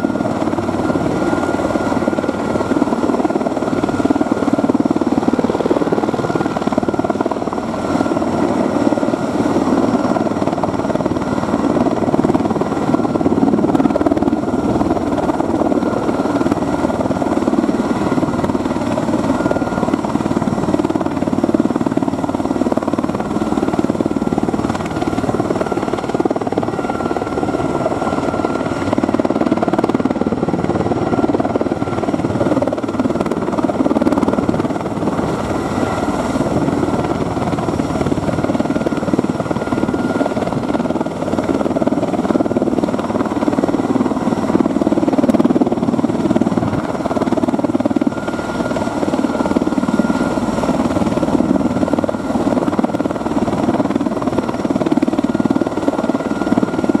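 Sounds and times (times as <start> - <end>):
helicopter rotor and engines: 0.0 - 57.0.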